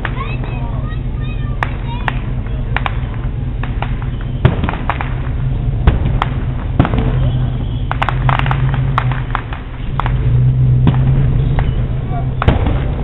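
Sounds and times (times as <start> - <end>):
crackling pops: 0.0 - 0.6, 1.5 - 13.0
fireworks bangs: 0.0 - 13.0.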